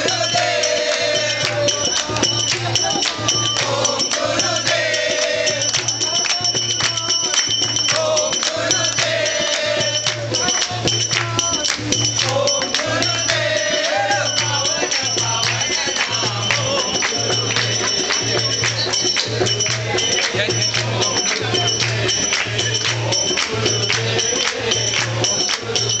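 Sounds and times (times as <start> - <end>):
devotional group singing: 0.0 - 26.0
jingling hand percussion: 0.0 - 26.0
steady low drum beat: 0.0 - 26.0.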